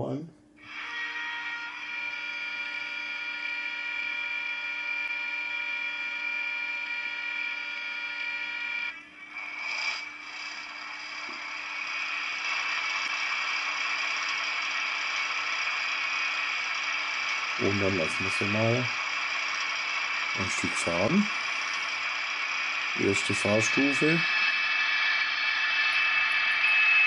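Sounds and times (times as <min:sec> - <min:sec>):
steady whine: 0:00.0 - 0:27.0.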